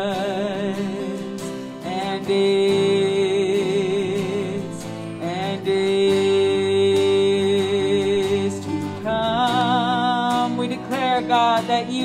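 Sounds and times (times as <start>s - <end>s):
acoustic and electric guitar: 0.0s - 12.0s
woman singing with vibrato: 0.0s - 12.0s.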